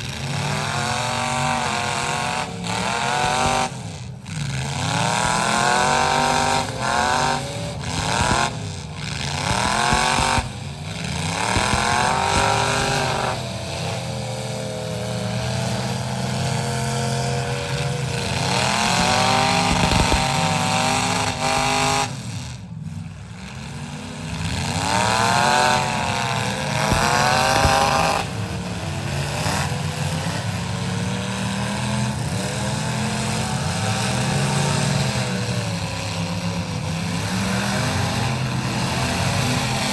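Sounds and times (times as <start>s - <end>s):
low engine drone: 0.0s - 37.2s
engines revving: 0.0s - 39.9s.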